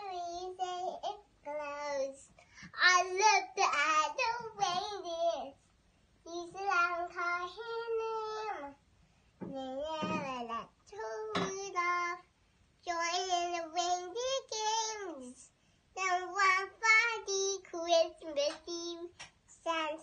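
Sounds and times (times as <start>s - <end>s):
young child singing: 0.0s - 5.6s, 6.2s - 8.8s, 9.4s - 20.0s.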